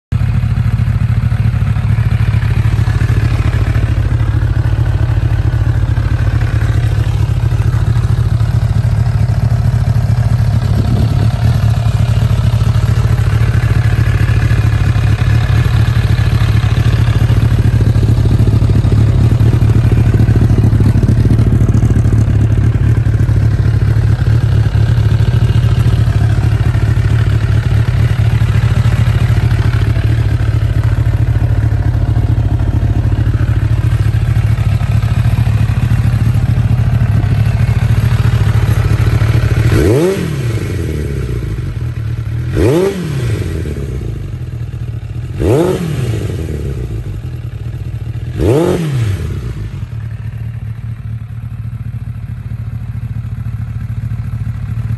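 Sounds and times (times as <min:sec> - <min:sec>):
motorcycle engine idling: 0:00.1 - 0:54.9.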